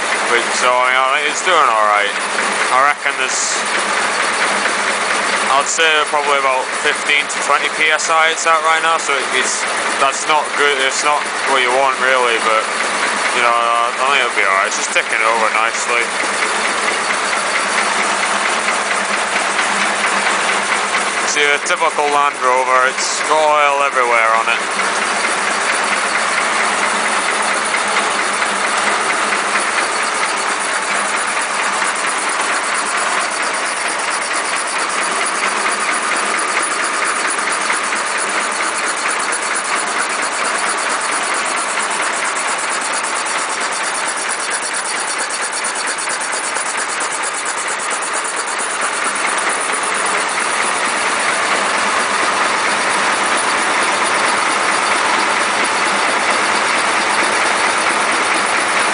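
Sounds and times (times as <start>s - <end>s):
air compressor engine clatter: 0.0s - 58.9s.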